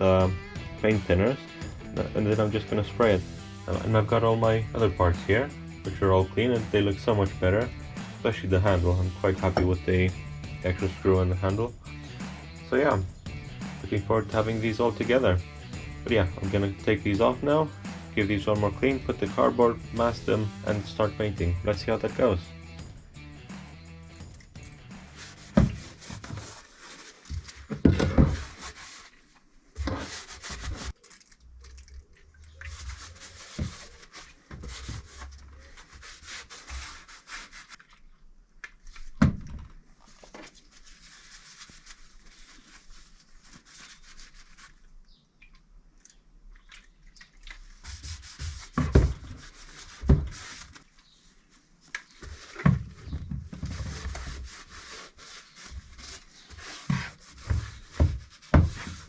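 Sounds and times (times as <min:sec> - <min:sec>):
cloth rubbing metal: 0:02.3 - 0:31.0, 0:32.7 - 0:37.8, 0:40.5 - 0:44.8, 0:47.8 - 0:52.6, 0:53.5 - 0:59.0.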